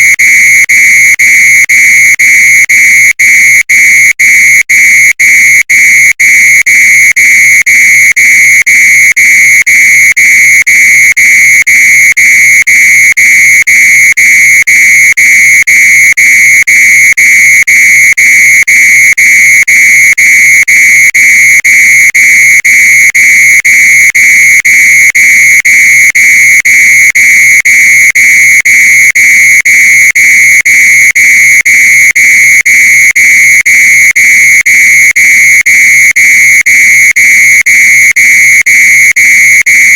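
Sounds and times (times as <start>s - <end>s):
muffled fire alarm beeping: 0.0s - 39.9s.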